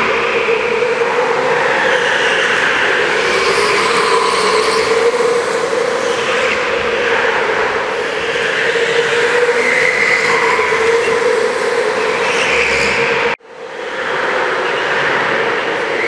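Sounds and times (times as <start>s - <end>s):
go-kart passing close: 0.0s - 13.4s
go-kart engines droning: 0.0s - 16.0s.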